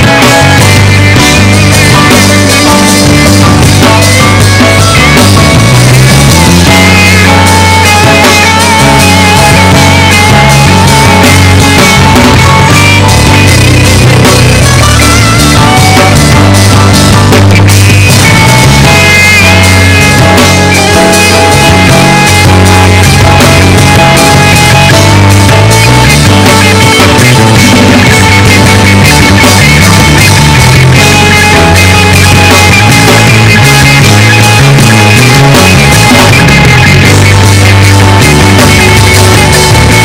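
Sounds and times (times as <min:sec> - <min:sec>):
loud band music: 0:00.0 - 0:40.0.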